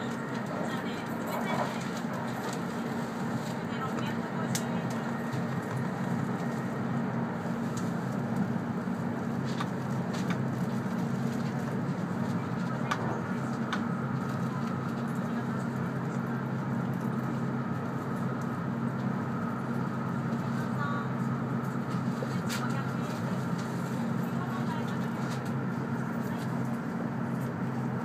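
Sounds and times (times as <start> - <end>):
train cabin rumble: 0.0 - 28.0.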